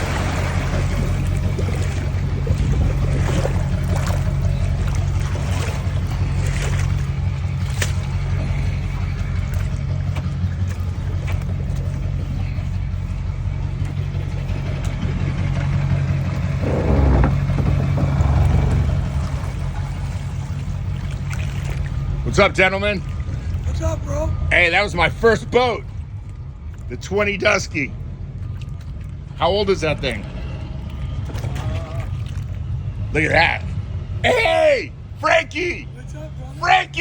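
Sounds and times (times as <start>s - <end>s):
motorboat engine humming: 0.0s - 37.0s
rushing water: 0.0s - 37.0s.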